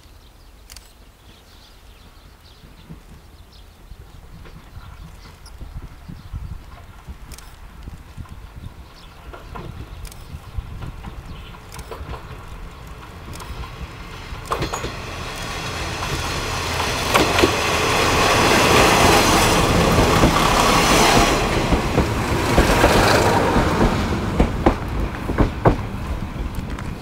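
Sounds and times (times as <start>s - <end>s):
diesel railcars passing: 2.7s - 27.0s
wheels clacking over rail joints: 4.2s - 27.0s.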